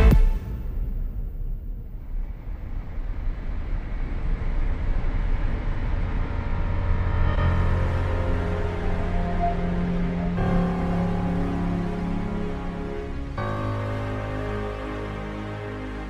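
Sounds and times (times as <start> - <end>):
low rumbling drone: 0.0 - 16.0.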